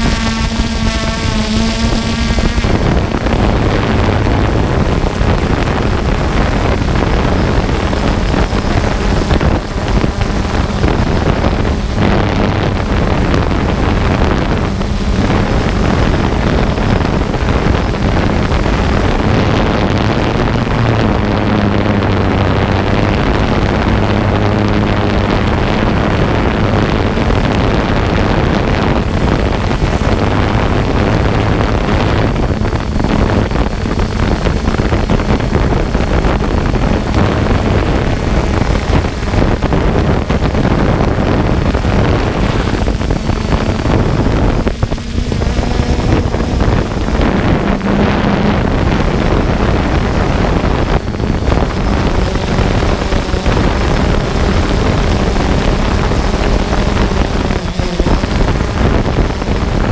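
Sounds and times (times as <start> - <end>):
drone motors and propellers: 0.0 - 59.9
wind on microphone: 0.0 - 59.9.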